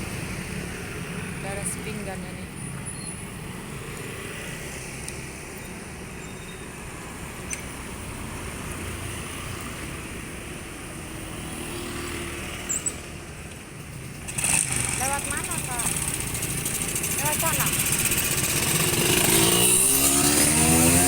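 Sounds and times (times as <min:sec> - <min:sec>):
motorcycle engine: 0:00.0 - 0:21.0
road noise: 0:00.0 - 0:21.0.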